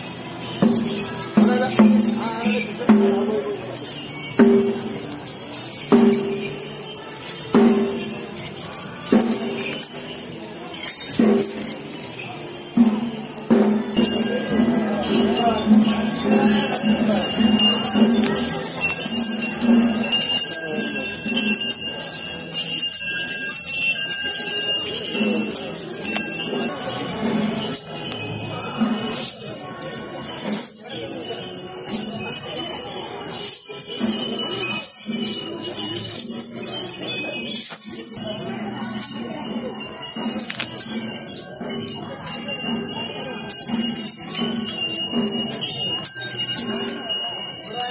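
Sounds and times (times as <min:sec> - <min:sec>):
metal bells clanking and jingling: 0:00.0 - 0:47.9.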